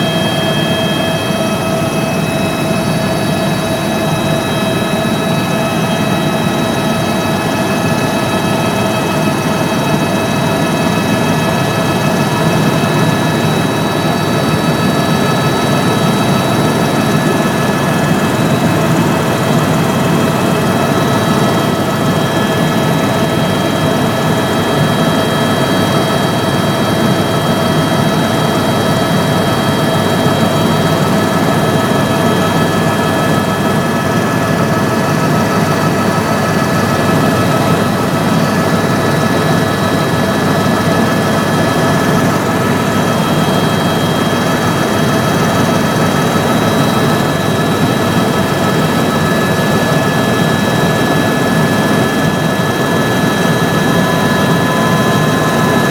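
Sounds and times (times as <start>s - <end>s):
helicopter drone with high whine: 0.0s - 55.9s.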